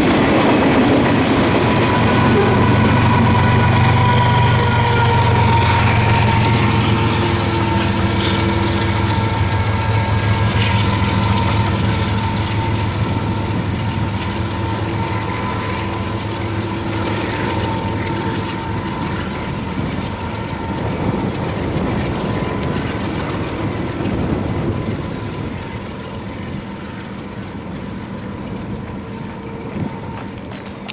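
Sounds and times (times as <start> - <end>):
diesel locomotive engine hum: 0.0 - 30.9
train cars rumbling on rails: 0.0 - 30.9.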